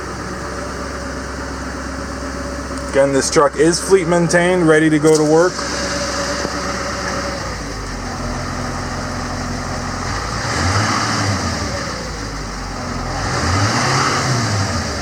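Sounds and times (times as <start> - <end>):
diesel truck engine idling and revving: 0.0 - 15.0.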